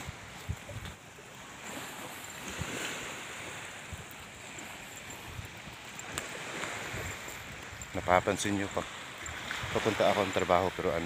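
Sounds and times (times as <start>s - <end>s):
wind buffeting microphone: 0.0s - 10.5s
surf washing onto beach: 0.0s - 11.0s.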